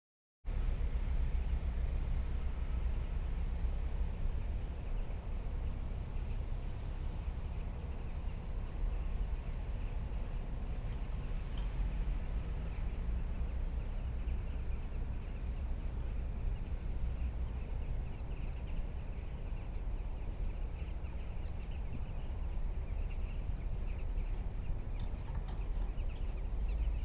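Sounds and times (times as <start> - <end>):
wind buffeting microphone: 0.5 - 27.0
flock of birds calling: 4.2 - 27.0.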